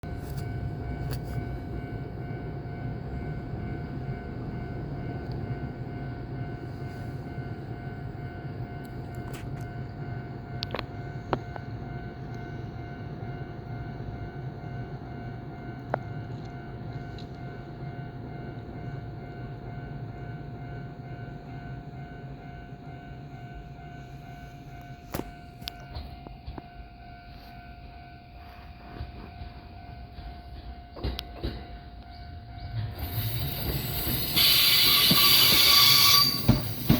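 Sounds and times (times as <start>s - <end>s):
electric train rumbling: 0.0s - 36.9s
level crossing warning bell ringing: 0.0s - 36.9s.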